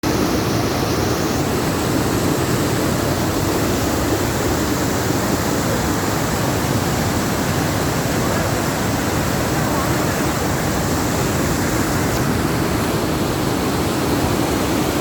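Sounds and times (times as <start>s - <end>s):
fast-flowing water rushing: 0.0s - 15.0s.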